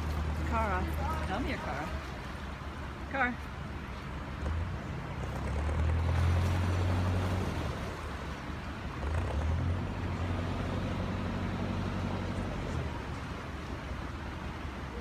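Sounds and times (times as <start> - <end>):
boat engine running: 0.0 - 15.0
propeller churning water: 0.0 - 15.0.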